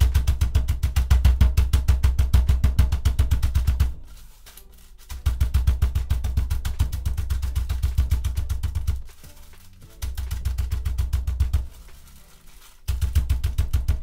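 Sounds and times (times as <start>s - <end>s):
driving drum beat with heavy bass: 0.0s - 14.0s.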